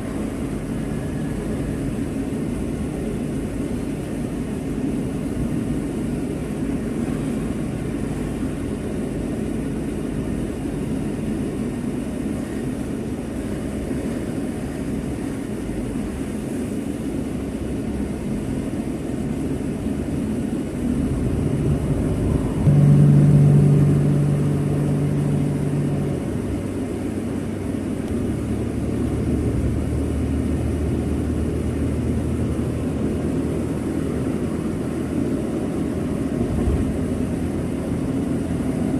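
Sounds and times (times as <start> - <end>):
loud steady engine tone: 0.0 - 38.9
vehicle rumble and road noise: 0.0 - 38.9.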